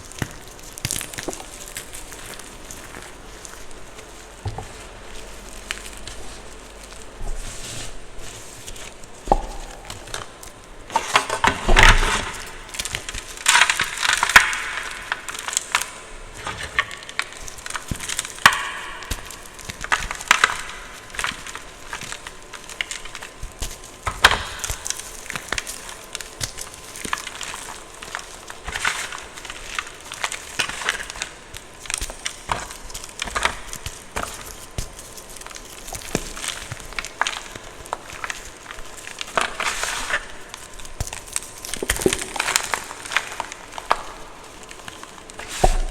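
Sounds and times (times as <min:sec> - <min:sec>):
chalk crunching and crackling: 0:00.0 - 0:45.9.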